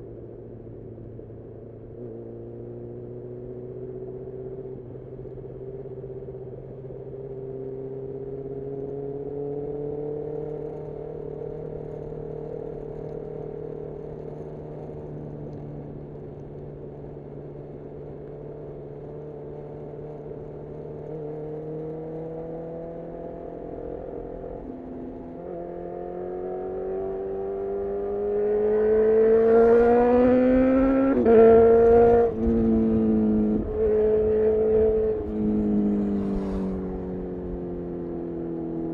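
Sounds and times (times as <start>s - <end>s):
motorcycle engine accelerating: 1.0s - 38.9s.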